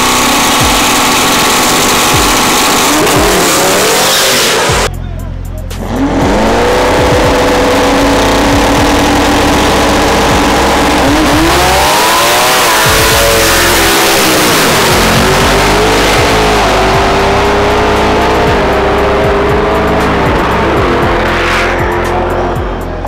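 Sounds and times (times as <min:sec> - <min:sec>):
car engines revving hard: 0:00.0 - 0:04.9, 0:05.7 - 0:23.0.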